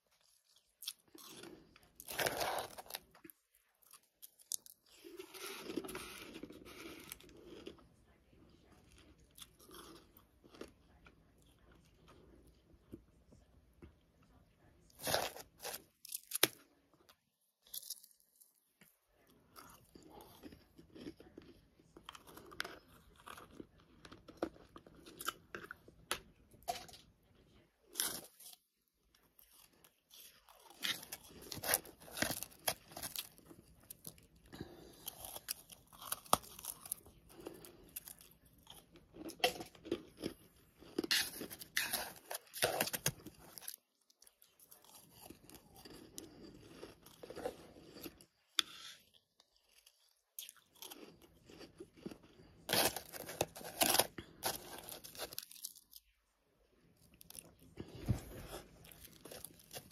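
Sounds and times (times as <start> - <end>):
crunching and chewing ice: 0.0 - 13.1, 13.9 - 59.9.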